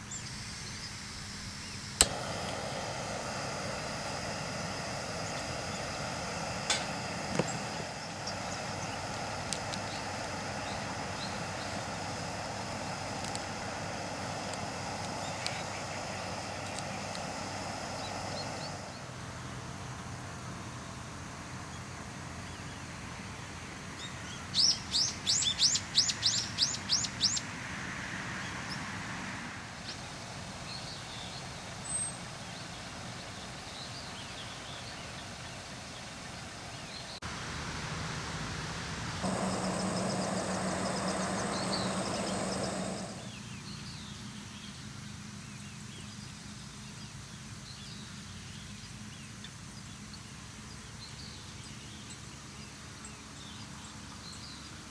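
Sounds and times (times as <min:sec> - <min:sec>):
mechanical hum: 0:00.0 - 0:54.9.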